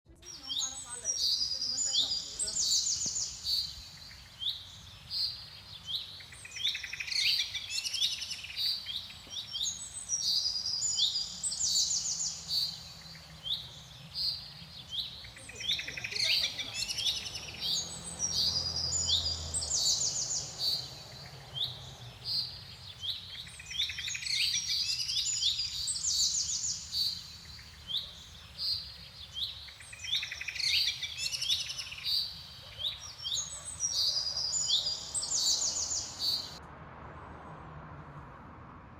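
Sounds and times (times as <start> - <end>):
songbird singing: 0.1 - 36.6.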